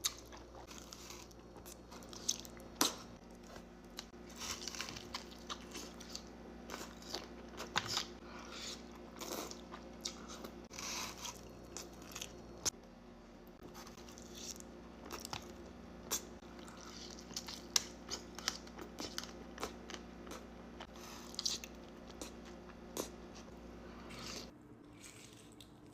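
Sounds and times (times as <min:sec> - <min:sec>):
person chewing crispy tacos: 0:00.0 - 0:12.8, 0:13.6 - 0:25.9.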